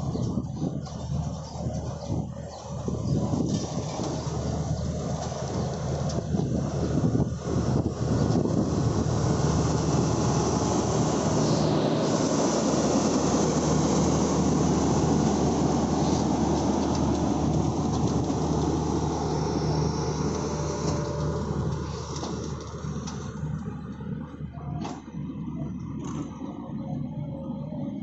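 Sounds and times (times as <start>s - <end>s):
constant low hum: 0.0s - 28.0s
train wheels rumbling: 0.0s - 28.0s.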